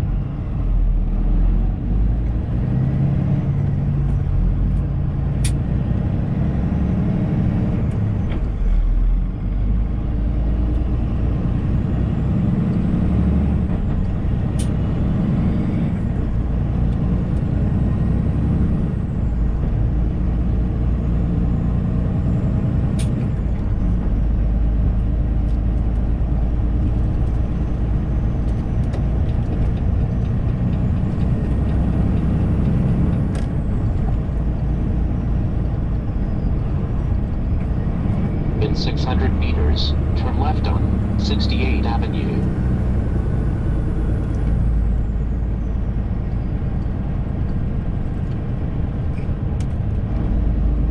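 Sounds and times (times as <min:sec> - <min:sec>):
road noise: 0:00.0 - 0:50.9
truck diesel engine rumble: 0:00.0 - 0:50.9.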